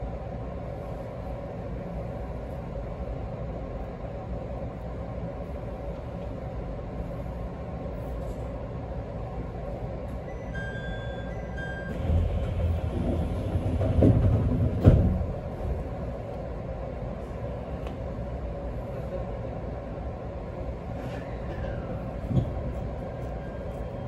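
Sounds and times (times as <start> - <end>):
train running rumble: 0.0 - 24.0.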